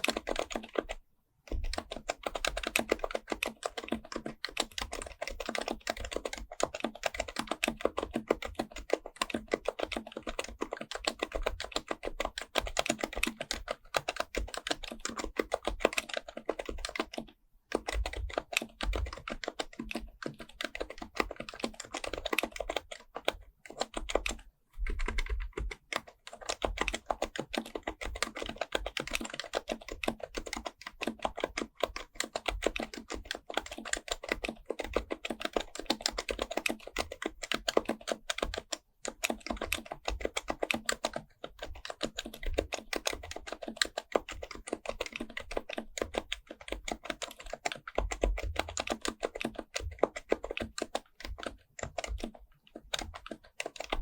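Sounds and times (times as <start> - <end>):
fast typing on keyboard: 0.0 - 54.0.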